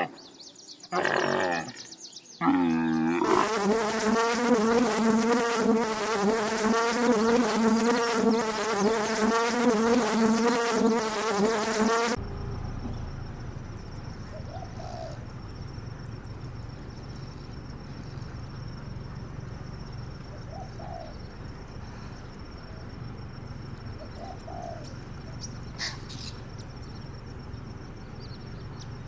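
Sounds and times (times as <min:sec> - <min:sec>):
flying insect buzzing: 0:02.7 - 0:29.0.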